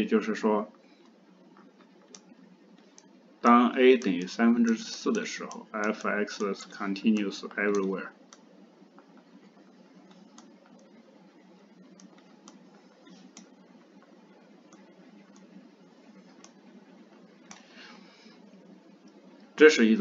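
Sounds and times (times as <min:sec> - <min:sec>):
low steady hiss: 0:00.0 - 0:20.0.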